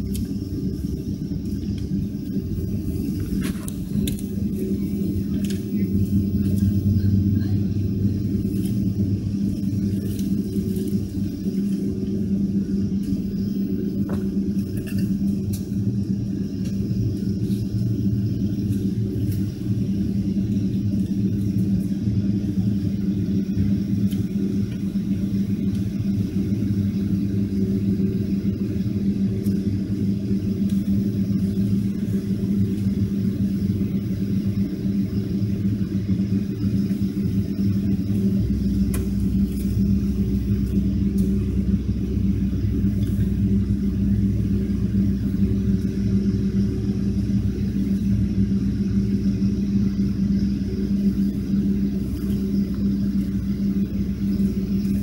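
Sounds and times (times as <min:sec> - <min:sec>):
aircraft cabin hum: 0:00.0 - 0:55.0
deep rumble: 0:00.0 - 0:55.0.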